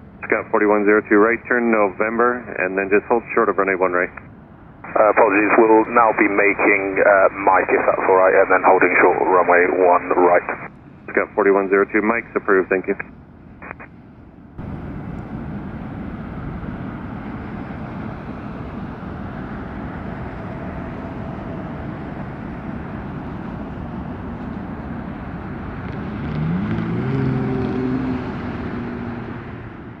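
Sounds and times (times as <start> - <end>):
turboprop engines running: 0.0 - 26.4.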